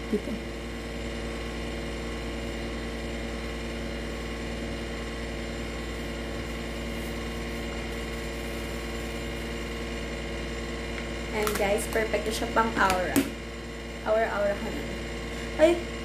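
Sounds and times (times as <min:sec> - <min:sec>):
window air conditioner humming: 0:00.0 - 0:16.0.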